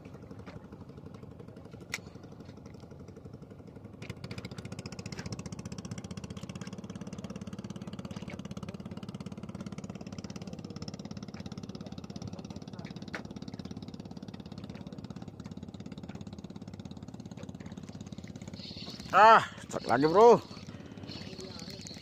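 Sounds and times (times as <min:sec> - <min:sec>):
small boat engine running: 0:00.0 - 0:22.0.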